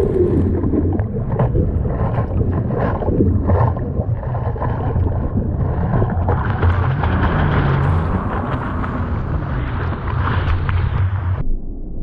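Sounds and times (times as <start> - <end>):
water rushing and splashing: 0.0 - 11.4.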